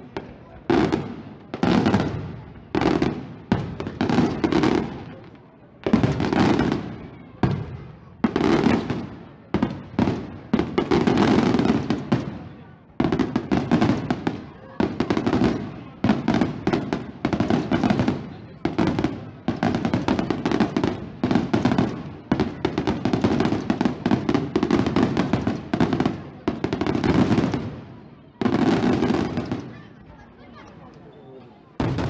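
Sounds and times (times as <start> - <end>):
crackling firework bursts: 0.0 - 30.0, 31.8 - 32.0.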